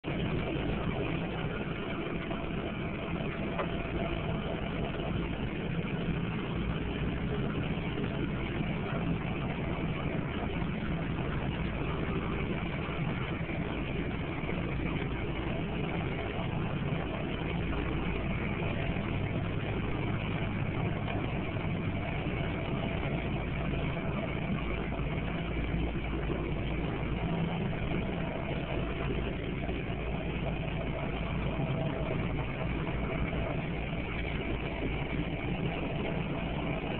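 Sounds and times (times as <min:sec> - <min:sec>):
engine drone: 0:00.0 - 0:36.9
snowblower machinery noise: 0:00.0 - 0:36.9.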